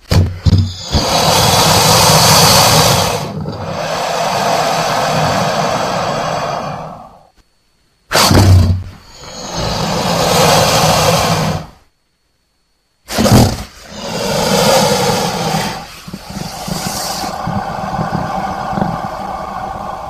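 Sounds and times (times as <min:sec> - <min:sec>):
crocodile roars: 0:00.7 - 0:07.3, 0:08.1 - 0:11.8, 0:13.1 - 0:20.0.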